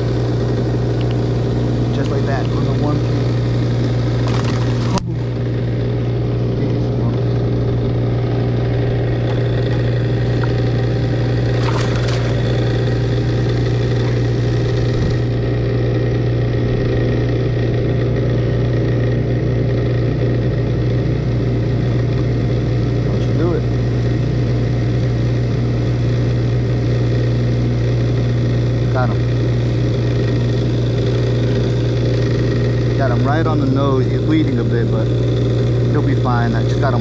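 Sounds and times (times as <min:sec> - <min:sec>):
motor humming: 0:00.0 - 0:37.0.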